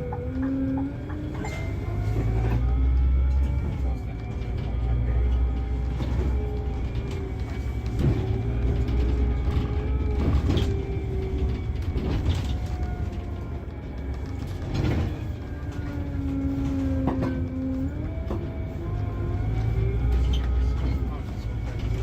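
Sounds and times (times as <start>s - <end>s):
coach engine rumble and whine: 0.0s - 22.0s.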